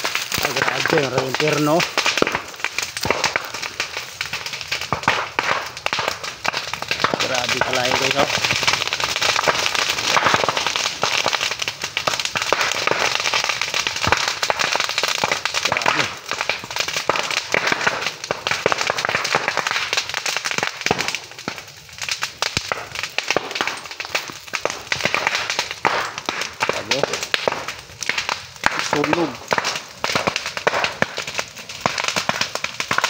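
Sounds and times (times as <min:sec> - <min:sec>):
bamboo popping in fire: 0:00.0 - 0:33.0
fire crackling: 0:00.0 - 0:33.0.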